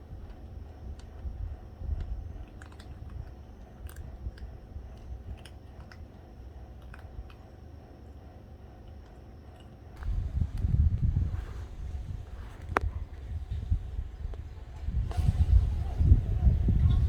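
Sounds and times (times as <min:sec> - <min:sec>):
cats chewing food: 0:00.0 - 0:17.0
low steady rumble: 0:00.0 - 0:17.0.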